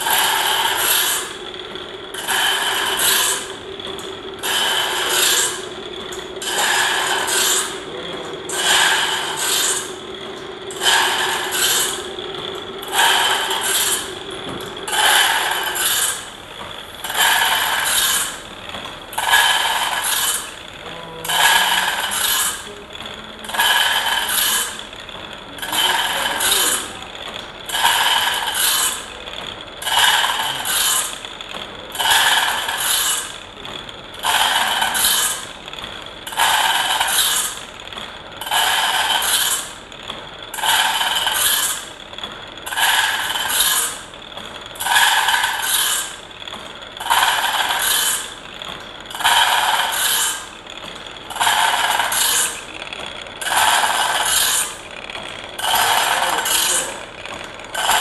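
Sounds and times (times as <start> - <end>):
grinding wheel rasping on blade: 0.0 - 58.0
quiet machine noise: 0.0 - 58.0.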